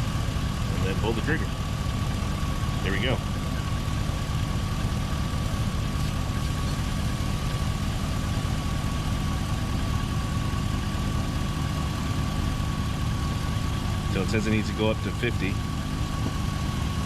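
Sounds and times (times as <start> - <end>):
pickup engine idling: 0.0 - 17.0
thin steady whine: 0.0 - 17.0.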